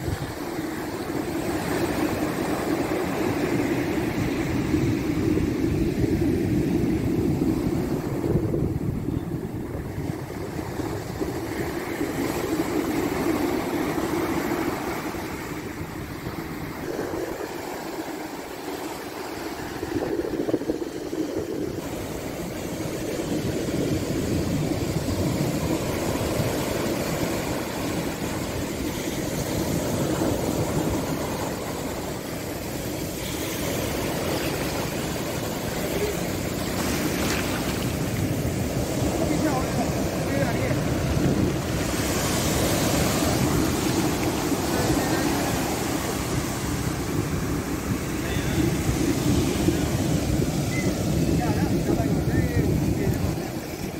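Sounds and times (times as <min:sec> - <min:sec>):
sea surf on sand beach: 0:00.0 - 0:53.9
wind rumbling on microphone: 0:00.0 - 0:53.9.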